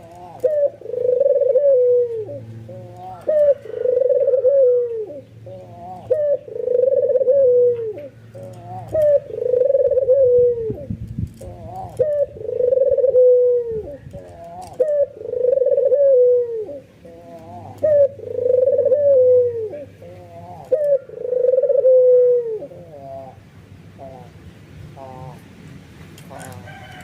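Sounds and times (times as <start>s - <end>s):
dove cooing: 0.0s - 25.5s, 26.2s - 27.0s.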